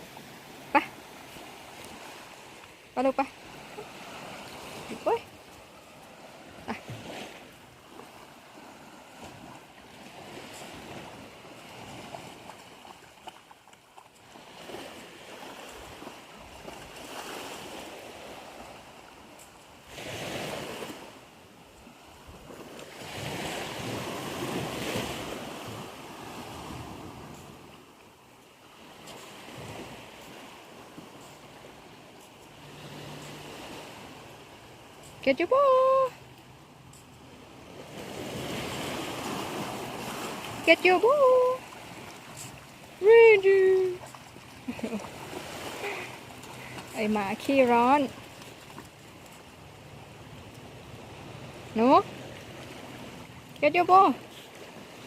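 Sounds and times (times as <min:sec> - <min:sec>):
sea waves washing onto beach: 0:00.0 - 0:55.0.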